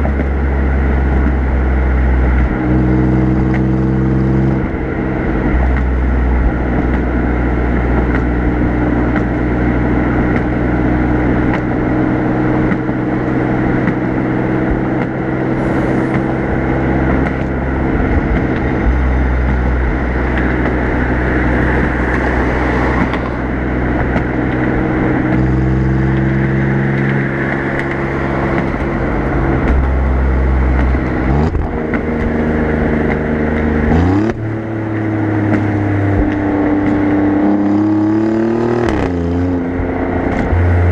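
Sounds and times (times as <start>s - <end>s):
car exhaust cruising: 0.0s - 40.9s
road noise: 0.0s - 40.9s.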